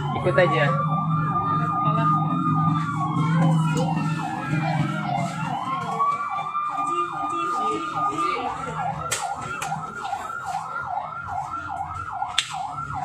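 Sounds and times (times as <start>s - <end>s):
siren fast yelp: 0.0s - 13.0s
siren slow wail: 0.0s - 13.0s.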